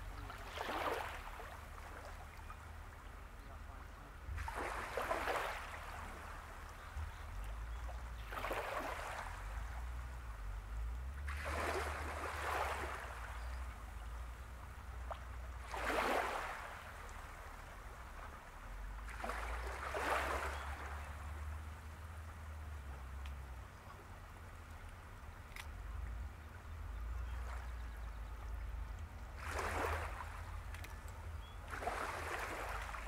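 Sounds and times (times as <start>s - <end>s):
small waves lapping at shore: 0.0s - 33.0s.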